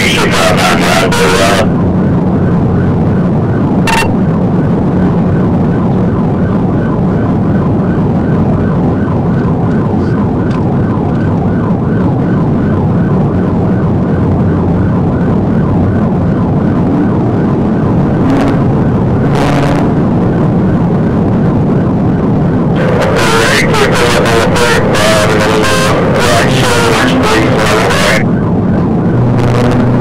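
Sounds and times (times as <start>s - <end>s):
engine and road noise: 0.0s - 30.0s
police siren yelping: 0.0s - 30.0s.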